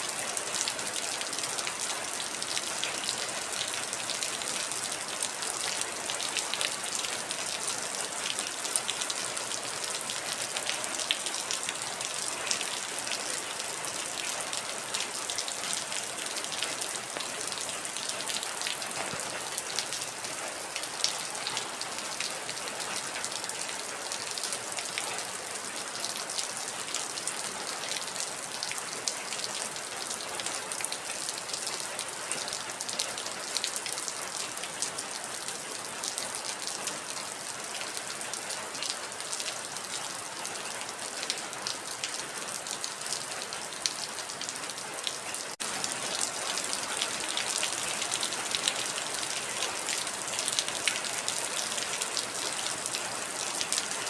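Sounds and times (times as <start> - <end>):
rain pattering on a hard surface: 0.0 - 54.0.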